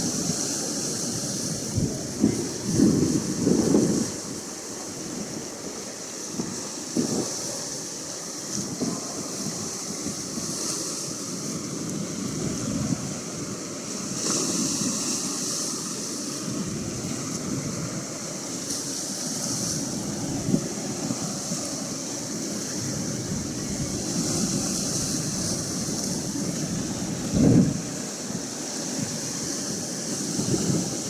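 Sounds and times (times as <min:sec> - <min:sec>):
ocean surf washing: 0:00.0 - 0:31.0
wind buffeting microphone: 0:00.0 - 0:31.0.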